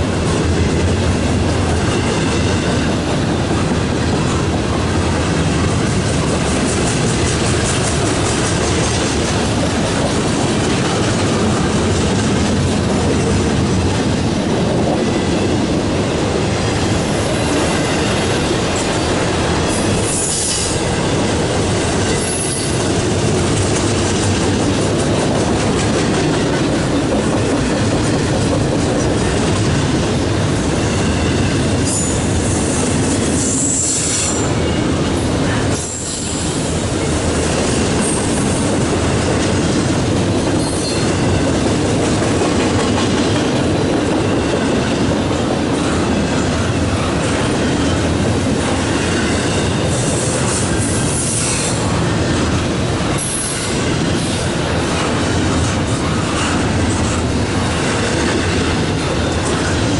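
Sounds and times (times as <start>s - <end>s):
steel wheels rolling on rail: 0.0s - 59.9s.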